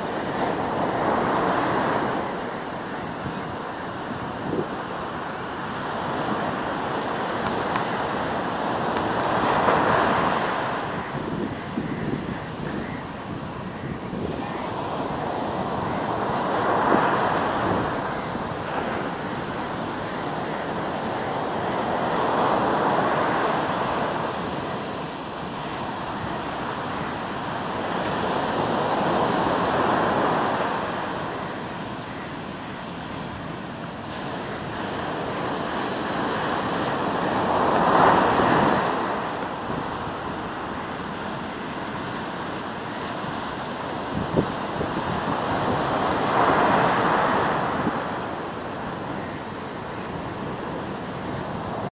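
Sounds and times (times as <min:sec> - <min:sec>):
waves breaking on a beach: 0:00.0 - 0:51.9.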